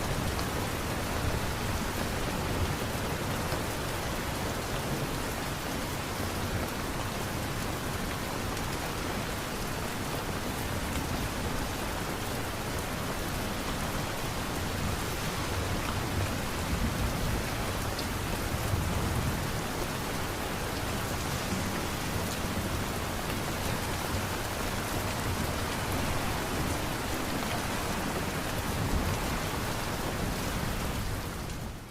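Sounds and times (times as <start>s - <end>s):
steady rain falling: 0.0s - 31.9s.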